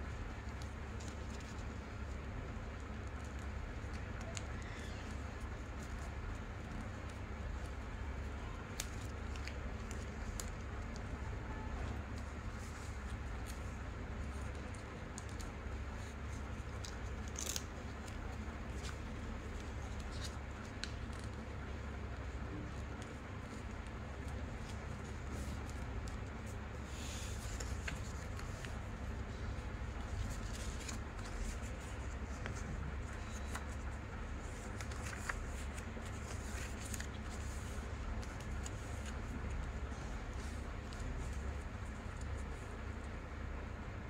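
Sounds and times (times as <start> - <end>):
steady low hum: 0.0 - 44.0
paper folding and crinkling: 0.1 - 43.1.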